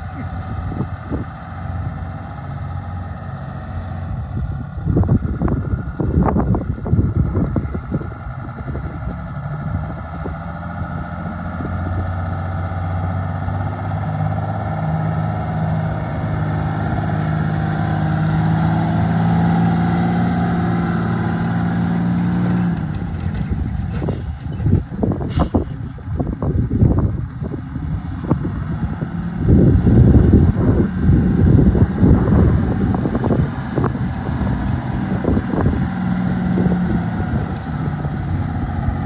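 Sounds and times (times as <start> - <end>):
diesel truck driving past: 0.0 - 39.0
wind buffeting microphone: 0.0 - 39.0.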